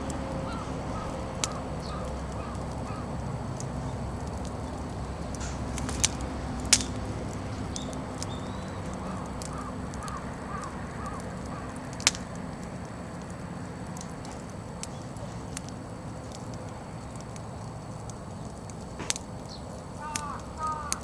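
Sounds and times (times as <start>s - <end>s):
bonfire crackling: 0.0s - 21.0s
firewood popping: 0.0s - 21.0s.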